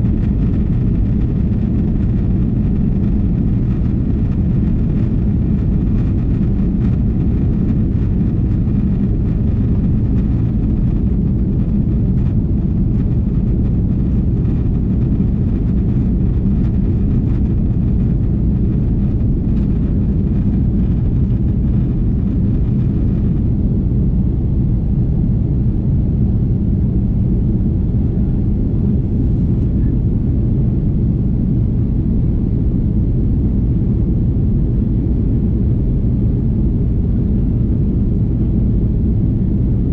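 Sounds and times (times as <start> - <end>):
airplane engines roaring: 0.0 - 39.9.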